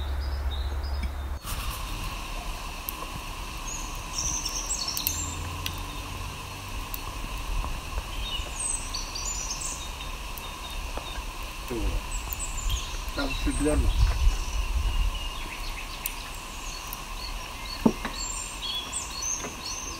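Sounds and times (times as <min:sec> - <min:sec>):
birds chirping: 0:00.0 - 0:01.4, 0:02.2 - 0:19.9
outdoor background hum: 0:00.0 - 0:19.9.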